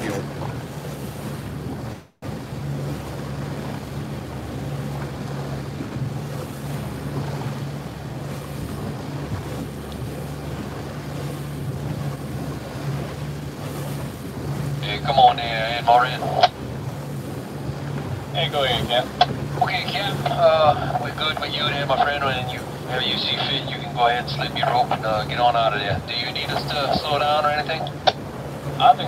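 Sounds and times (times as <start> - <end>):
wind buffeting microphone: 0.0 - 27.0
boat engine humming: 0.0 - 29.0
water wash: 0.0 - 29.0.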